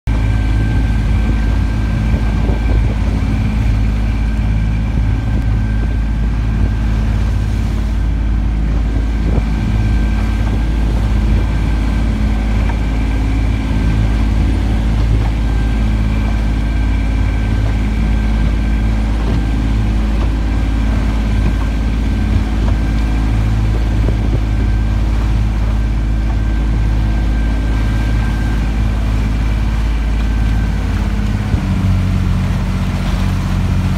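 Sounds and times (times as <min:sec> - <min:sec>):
boat engine humming: 0:00.0 - 0:33.9.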